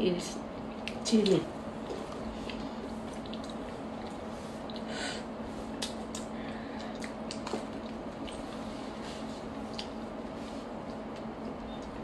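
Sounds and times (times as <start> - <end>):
steady low hum: 0.0 - 12.0
people chewing pizza: 0.6 - 12.0.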